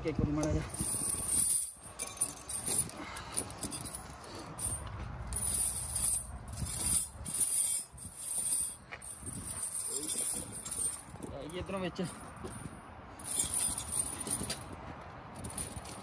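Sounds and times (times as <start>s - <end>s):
tire chains clinking and jingling: 0.3s - 16.0s.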